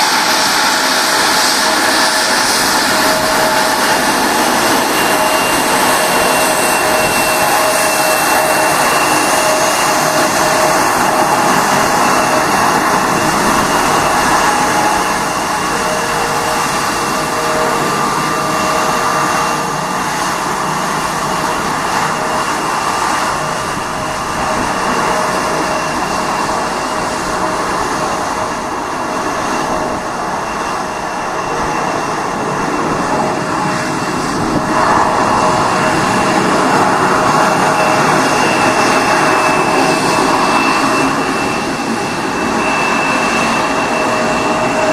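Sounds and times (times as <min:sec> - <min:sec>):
jet engines whining: 0:00.0 - 0:44.9.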